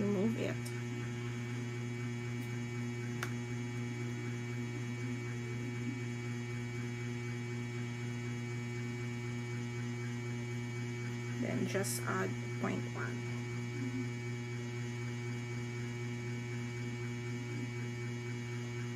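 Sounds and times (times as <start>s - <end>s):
electrical hum: 0.0s - 18.9s.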